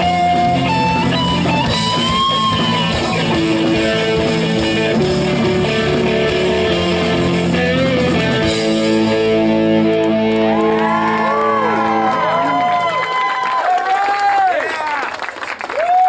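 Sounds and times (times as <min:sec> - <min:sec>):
drum kit: 0:00.0 - 0:13.2
bass guitar: 0:00.0 - 0:13.4
electric guitars: 0:00.0 - 0:13.6.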